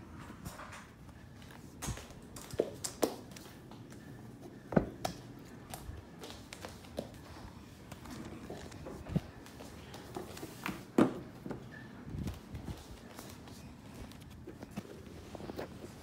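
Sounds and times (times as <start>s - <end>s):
footsteps on floor: 1.5s - 16.0s.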